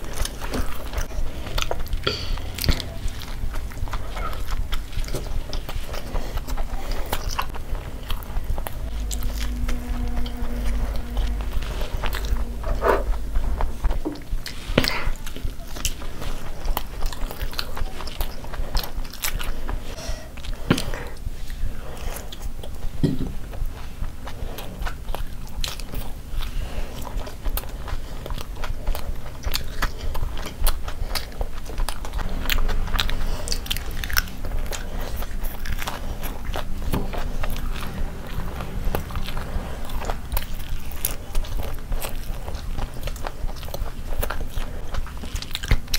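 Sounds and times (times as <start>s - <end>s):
food crackling and crunching: 0.0s - 45.9s
people chewing fried food: 0.0s - 45.9s.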